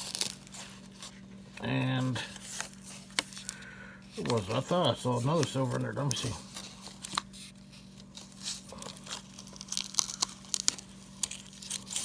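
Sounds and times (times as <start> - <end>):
paper wrapper crinkling: 0.0 - 12.0.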